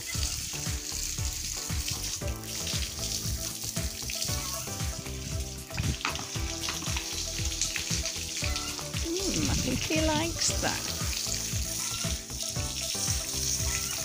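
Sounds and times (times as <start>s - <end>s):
hose water spraying: 0.0s - 14.0s.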